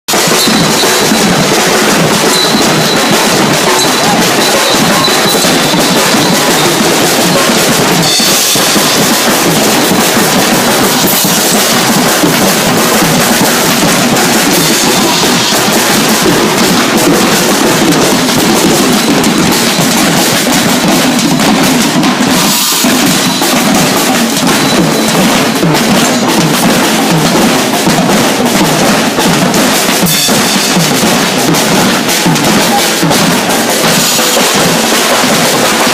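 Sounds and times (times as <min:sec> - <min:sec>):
percussion group drumming: 0:00.1 - 0:35.9.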